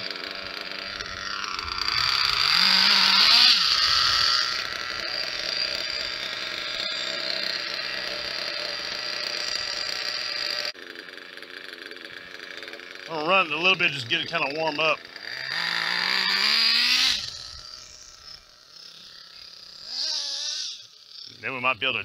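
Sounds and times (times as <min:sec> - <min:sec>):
small nitro engine revving and idling: 0:00.0 - 0:22.0.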